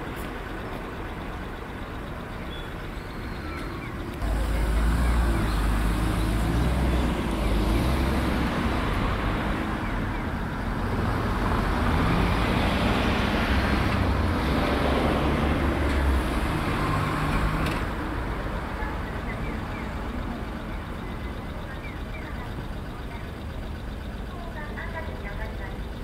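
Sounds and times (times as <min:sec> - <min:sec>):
vehicle engines running: 0:00.0 - 0:26.0.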